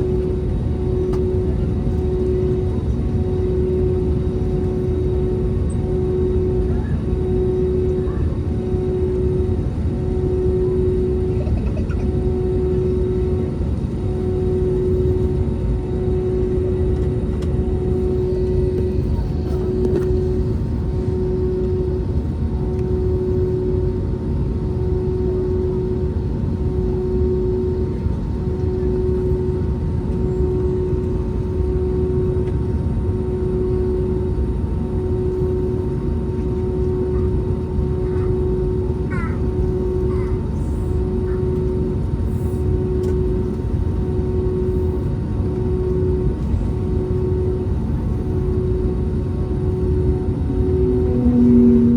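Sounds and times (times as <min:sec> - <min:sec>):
jet engines rumbling in cabin: 0:00.0 - 0:51.9
throbbing hum: 0:00.0 - 0:51.9.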